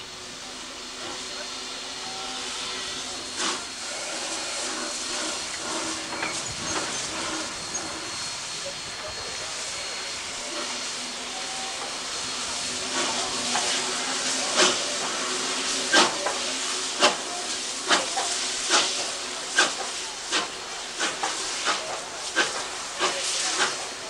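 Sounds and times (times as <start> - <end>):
steam hissing from drain cocks: 0.0 - 24.0
steam locomotive exhaust chuffs: 0.0 - 24.0.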